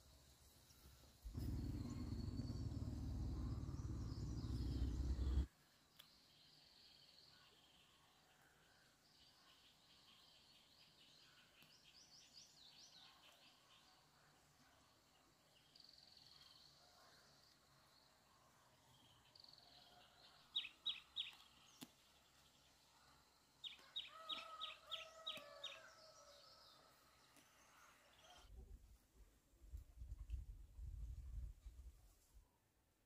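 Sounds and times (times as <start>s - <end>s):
faint birdsong: 0.0s - 28.6s.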